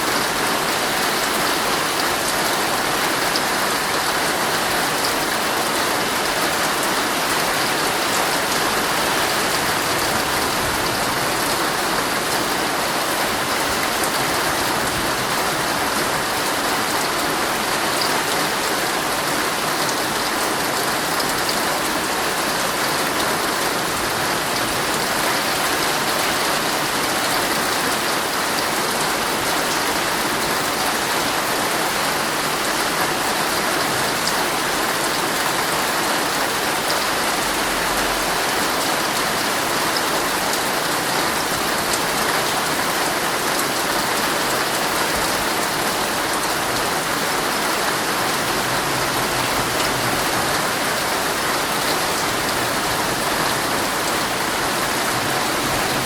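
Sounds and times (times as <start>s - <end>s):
heavy rain on tent fabric: 0.0s - 56.0s.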